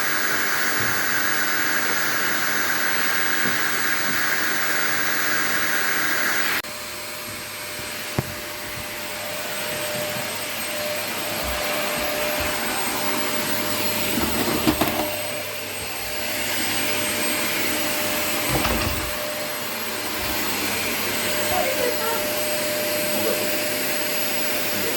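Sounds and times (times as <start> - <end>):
vacuum cleaner running: 0.0 - 24.9.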